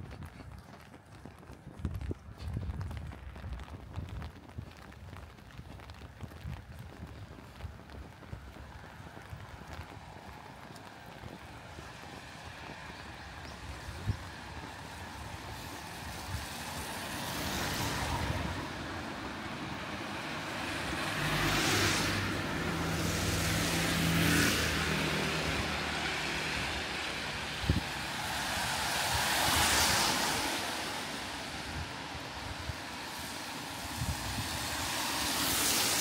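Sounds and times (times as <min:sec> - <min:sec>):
cars passing on wet road: 0:00.2 - 0:36.0.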